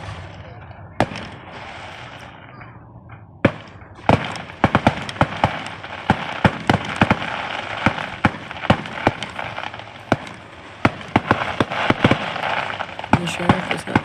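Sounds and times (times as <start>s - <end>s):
fireworks bangs and pops: 0.0s - 14.0s
fireworks crackling: 0.0s - 14.0s.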